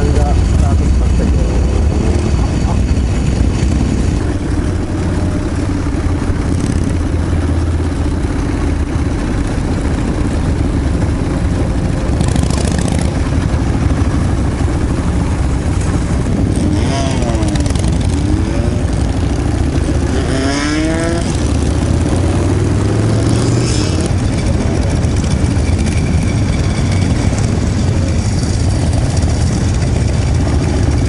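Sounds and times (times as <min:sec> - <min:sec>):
motorcycle engines running: 0:00.0 - 0:31.0.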